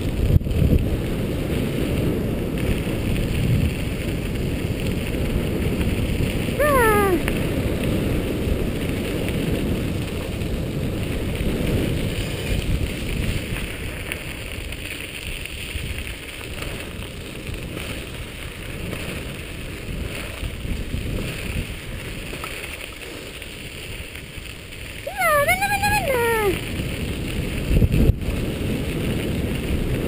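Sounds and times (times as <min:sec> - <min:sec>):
wind rushing over microphone: 0:00.0 - 0:22.4, 0:23.7 - 0:30.0.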